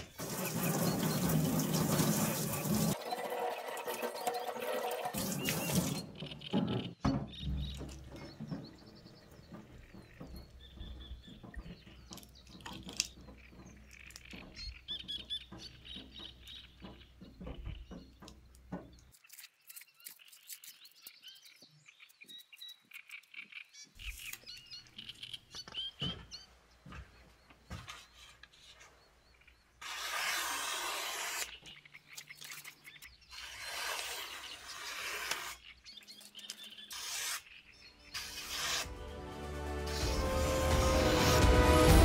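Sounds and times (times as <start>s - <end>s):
small birds chirping: 2.3s - 30.1s, 31.3s - 38.6s.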